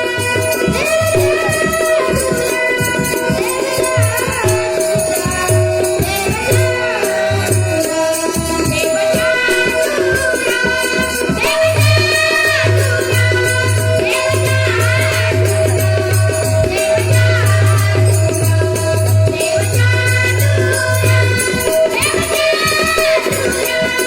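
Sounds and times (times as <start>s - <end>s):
child singing: 0.0s - 24.0s
harmonium note: 0.0s - 24.0s
jingling shaker percussion: 0.0s - 24.0s.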